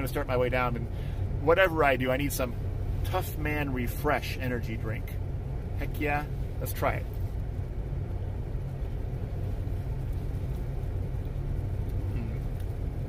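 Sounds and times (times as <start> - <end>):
low rumble inside van: 0.0 - 13.0.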